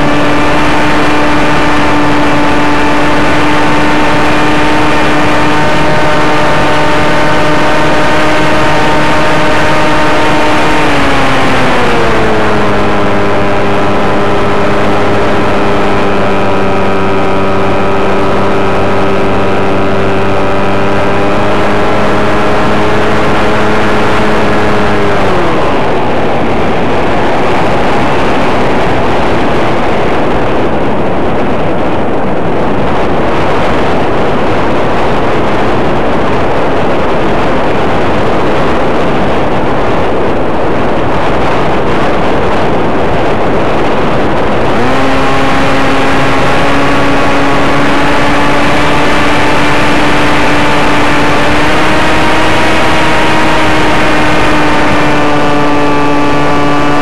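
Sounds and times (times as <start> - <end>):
electric motor and propeller whining: 0.0 - 57.0
wind rushing over microphone: 0.0 - 57.0.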